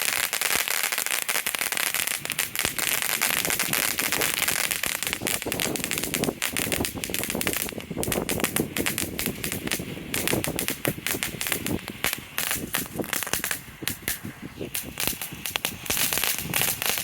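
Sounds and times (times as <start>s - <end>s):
firework fountains crackling: 0.0s - 17.0s
firework hissing spray: 0.0s - 17.0s.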